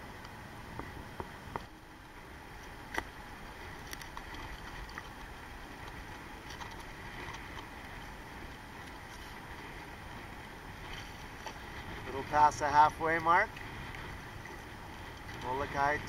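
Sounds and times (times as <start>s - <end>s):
ocean water sloshing and splashing: 0.6s - 16.0s.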